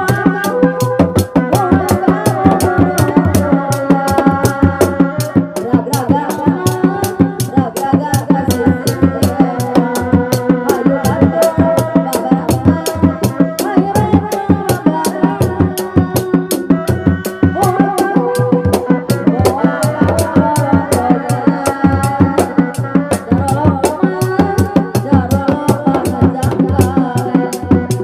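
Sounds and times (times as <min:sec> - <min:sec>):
drums beating fast rhythm: 0:00.0 - 0:28.0
pitched melody: 0:00.0 - 0:28.0.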